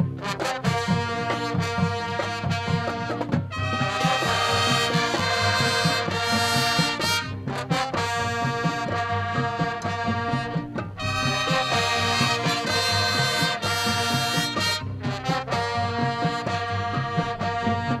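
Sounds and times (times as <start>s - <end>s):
marching band playing: 0.0s - 18.0s.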